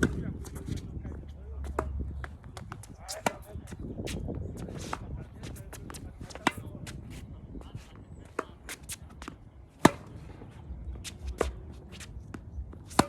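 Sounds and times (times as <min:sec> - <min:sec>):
tennis balls struck by rackets: 0:00.0 - 0:00.9, 0:01.6 - 0:13.0
wind rumble on microphone: 0:00.0 - 0:13.0.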